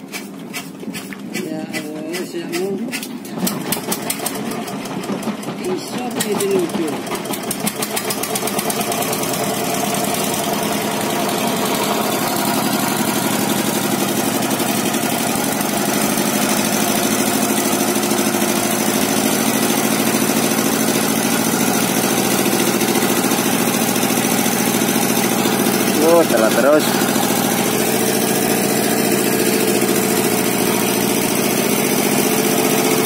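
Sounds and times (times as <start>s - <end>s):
engine running with fast pulse: 3.0s - 33.0s.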